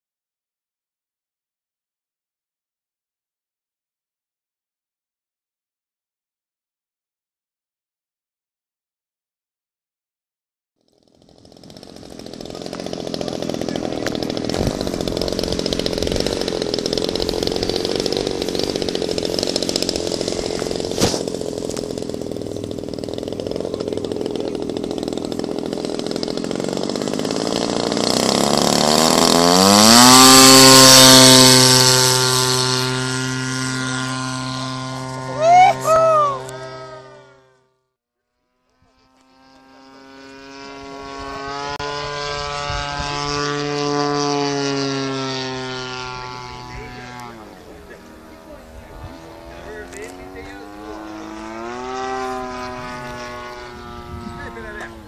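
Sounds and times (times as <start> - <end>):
model airplane engine running: 10.8 - 55.0.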